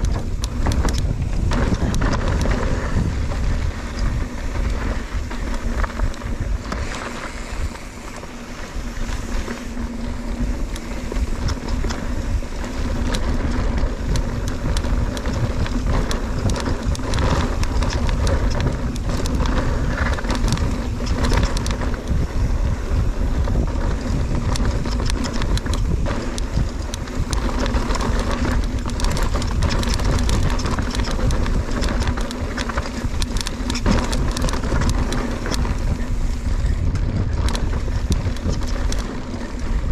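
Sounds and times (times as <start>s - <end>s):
bike clicks and rattles: 0.0s - 39.9s
bike tyres rumbling on dirt: 0.0s - 39.9s
wind buffeting microphone: 0.0s - 39.9s.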